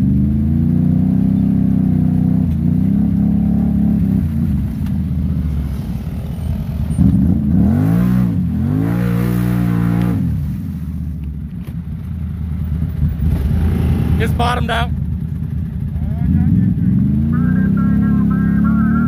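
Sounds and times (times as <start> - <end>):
atv engine revving: 0.0 - 19.0
tires churning in mud: 0.0 - 19.0.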